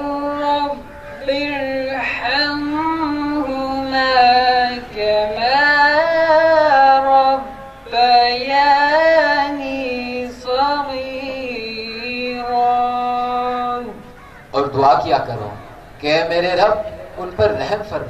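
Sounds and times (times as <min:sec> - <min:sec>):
man chanting recitation: 0:00.0 - 0:18.0.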